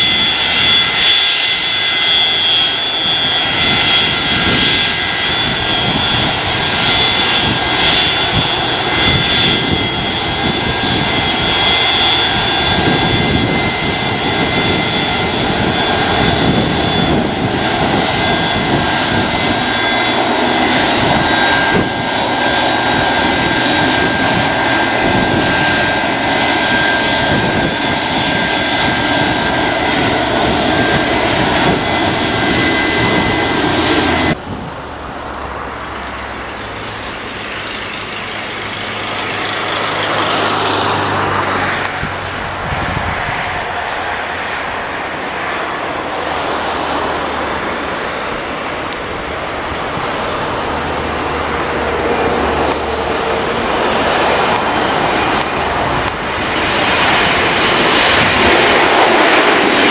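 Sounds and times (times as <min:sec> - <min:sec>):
high engine whine: 0:00.0 - 0:59.9
jet engines rumbling: 0:00.0 - 0:59.9.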